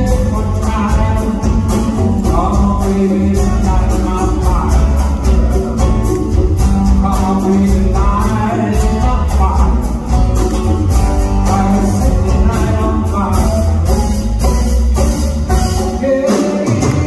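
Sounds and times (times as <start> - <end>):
bass: 0.0 - 17.0
man singing: 0.0 - 17.0
strummed acoustic guitar: 0.0 - 17.0
ticking percussion beat: 0.0 - 17.0.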